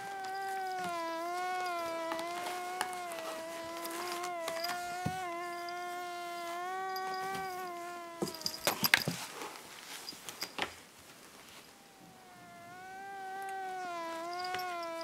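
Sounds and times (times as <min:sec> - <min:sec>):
mosquito buzzing: 0:00.0 - 0:09.1, 0:11.6 - 0:15.0.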